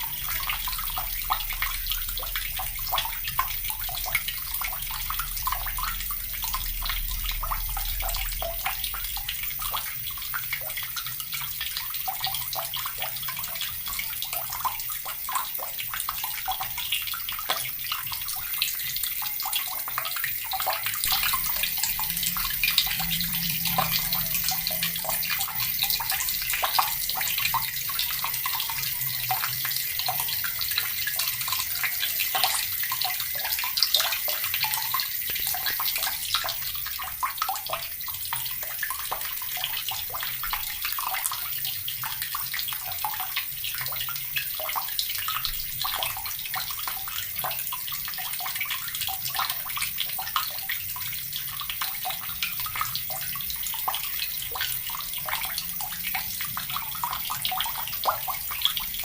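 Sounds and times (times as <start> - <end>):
tap water running and splashing: 0.0 - 59.0.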